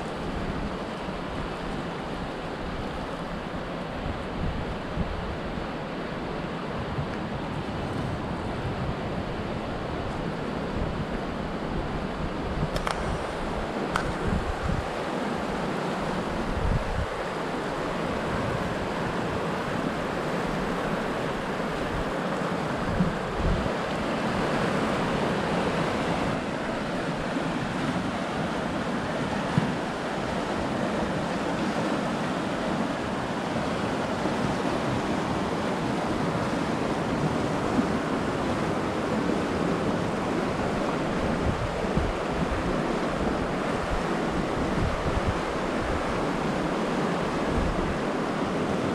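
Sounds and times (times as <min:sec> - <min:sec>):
river rushing over rocks: 0:00.0 - 0:48.9
wind buffeting microphone: 0:00.0 - 0:48.9.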